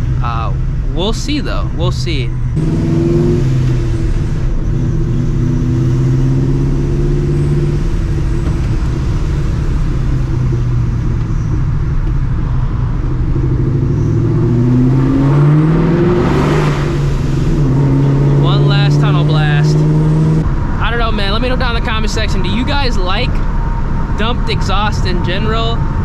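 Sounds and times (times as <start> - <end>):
car engine droning: 0.0 - 26.0
road noise: 0.0 - 26.0.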